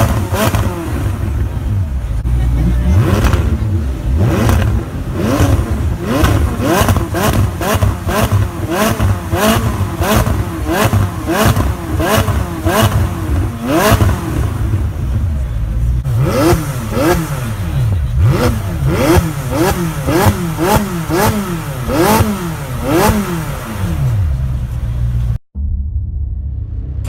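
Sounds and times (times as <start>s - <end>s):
car engine revving in blips: 0.0s - 15.2s, 15.9s - 25.4s.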